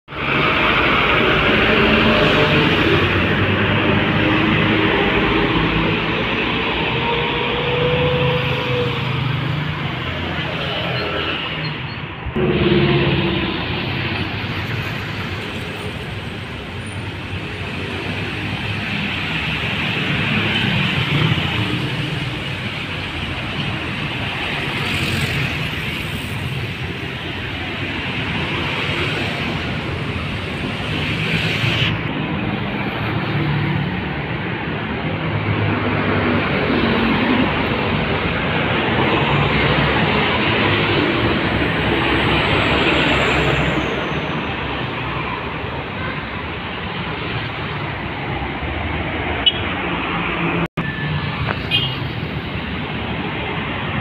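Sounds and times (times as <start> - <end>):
road traffic passing: 0.1 - 54.0.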